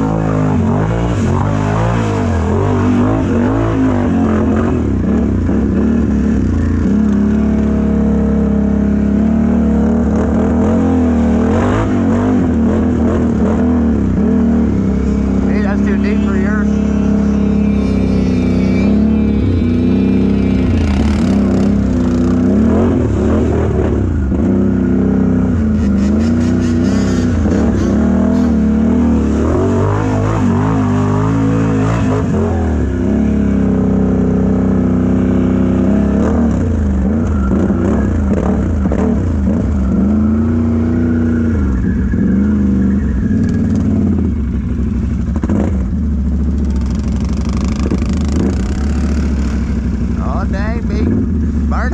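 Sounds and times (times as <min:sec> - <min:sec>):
truck engine revving in mud: 0:00.0 - 0:44.0.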